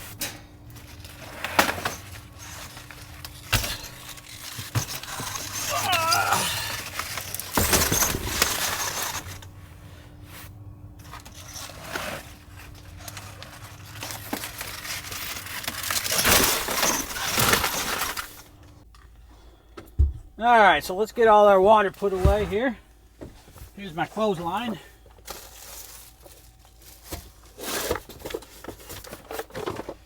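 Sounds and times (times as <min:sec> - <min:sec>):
objects rustling and scraping: 0:00.0 - 0:20.4, 0:21.7 - 0:30.0
steady low hum: 0:00.0 - 0:28.5.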